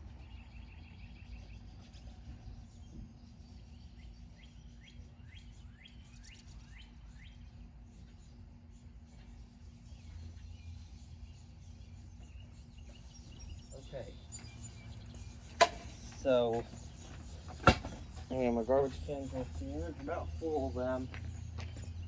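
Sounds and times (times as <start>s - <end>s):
faint low outdoor hum: 0.0s - 22.0s
songbird singing down-slurred notes: 0.0s - 22.0s.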